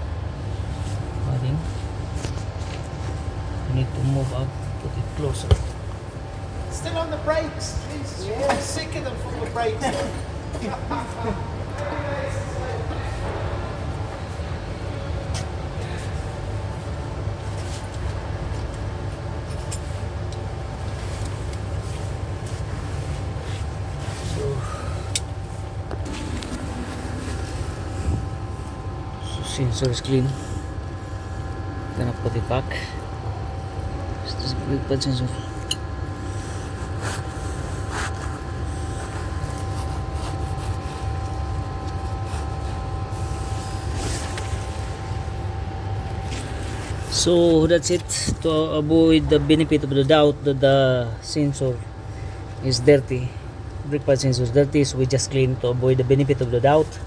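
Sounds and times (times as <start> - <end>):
low machinery drone: 0.0 - 57.0
steady whine: 0.0 - 57.0.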